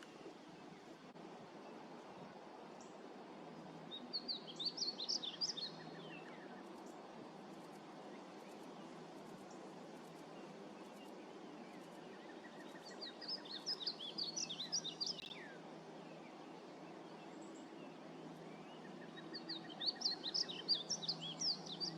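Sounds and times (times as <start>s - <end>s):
background hiss: 0.0s - 21.9s
bird song with high gliding notes: 0.0s - 21.9s.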